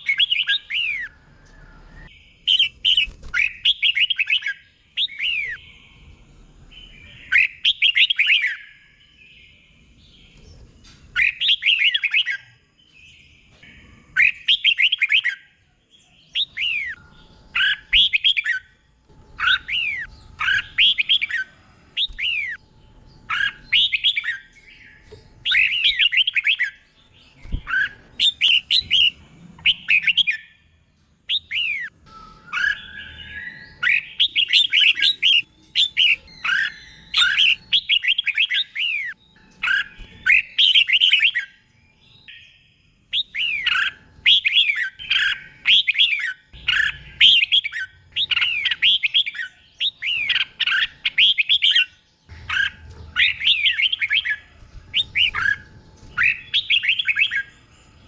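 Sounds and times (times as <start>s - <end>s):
bird singing warbled phrases: 0.0s - 58.0s.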